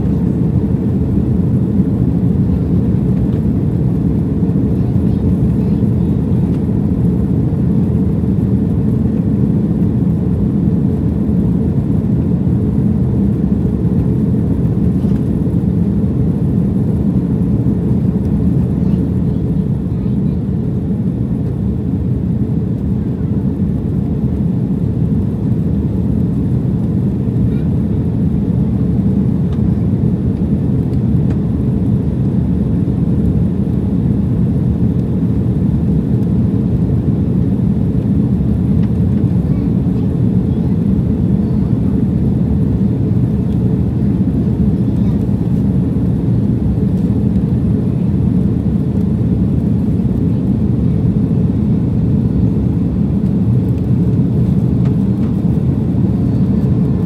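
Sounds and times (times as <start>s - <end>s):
jet airliner engine rumble: 0.0s - 57.0s.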